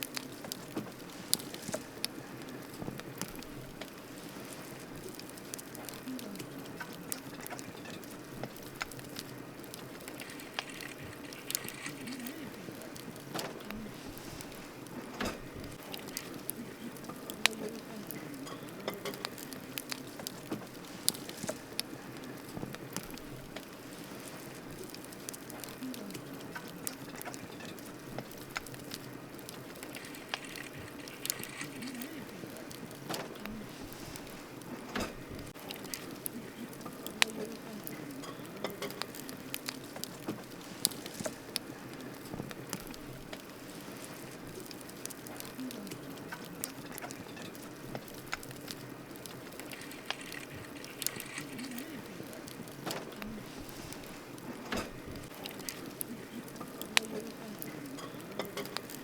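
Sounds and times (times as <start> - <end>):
campfire crackling and popping: 0.0 - 59.0
soft steady hiss: 0.0 - 59.0.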